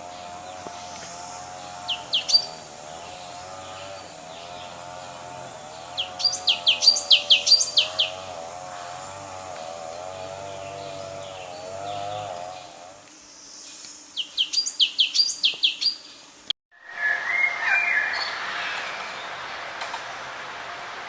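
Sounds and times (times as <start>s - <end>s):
songbird chirping: 0.1s - 19.8s.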